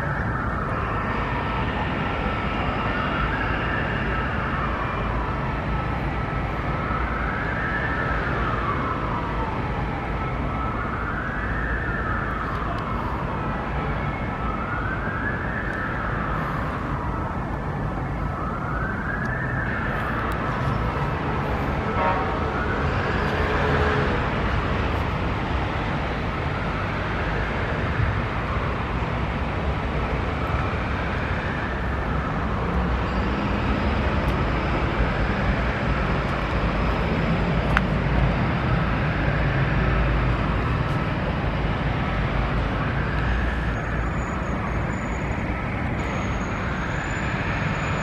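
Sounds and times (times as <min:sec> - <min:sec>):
low rumble of traffic: 0:00.0 - 0:48.0
siren wailing: 0:00.0 - 0:48.0.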